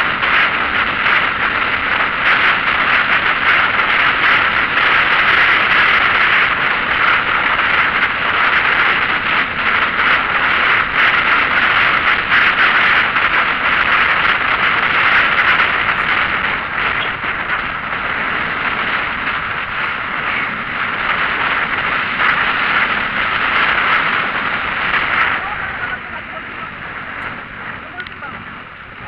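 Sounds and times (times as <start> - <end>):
road and wind noise in vehicle: 0.0 - 29.0.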